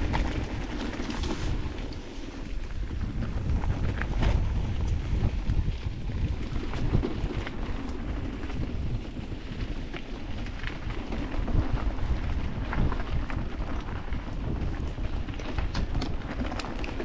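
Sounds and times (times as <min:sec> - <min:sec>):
bike rolling over rough trail: 0:00.0 - 0:17.0
clicks and knocks from bike tyres: 0:00.0 - 0:17.0
wind rumbling on microphone: 0:00.0 - 0:17.0.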